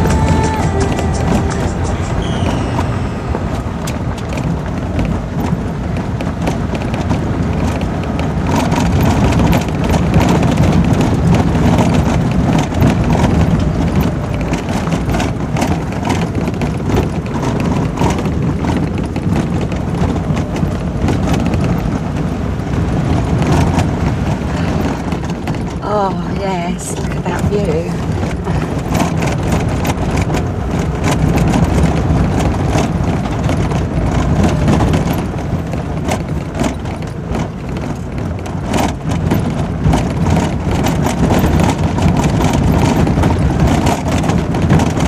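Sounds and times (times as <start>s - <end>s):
car engine and tyres on gravel: 0.0s - 45.0s.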